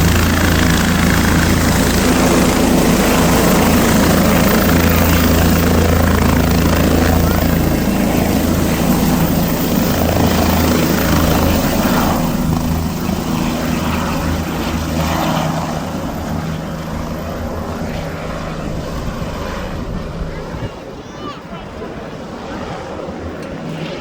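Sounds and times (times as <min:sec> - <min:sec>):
helicopter rotor and engine: 0:00.0 - 0:24.0.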